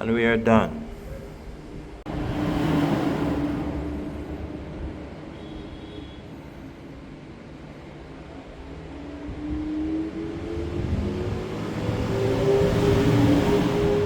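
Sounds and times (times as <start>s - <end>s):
vehicle passing by: 0.8s - 14.0s.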